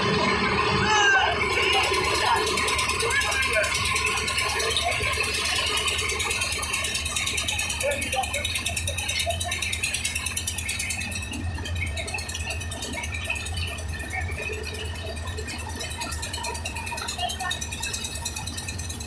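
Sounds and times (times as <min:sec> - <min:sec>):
concrete mixer running: 0:00.0 - 0:19.0
workers' voices: 0:00.0 - 0:19.0.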